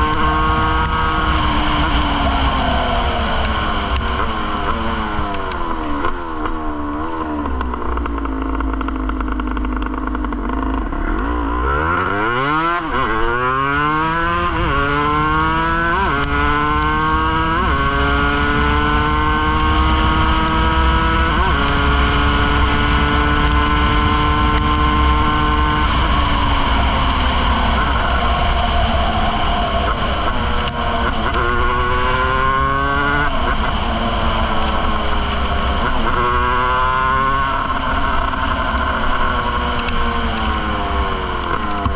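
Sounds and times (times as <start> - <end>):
motorcycle engine revving: 0.0 - 41.9
wind rumble on microphone: 0.0 - 41.9.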